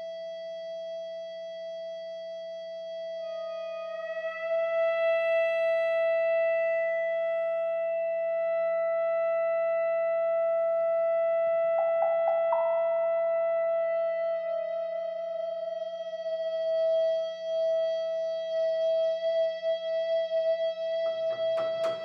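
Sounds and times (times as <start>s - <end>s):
piano: 3.2s - 19.5s, 20.3s - 22.0s.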